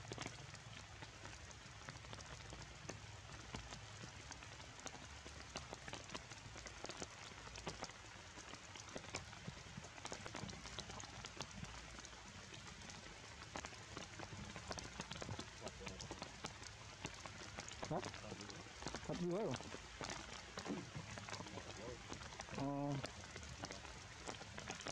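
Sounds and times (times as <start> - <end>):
drops ticking on wet leaves: 0.0 - 24.9
rain hissing on foliage: 0.0 - 24.9.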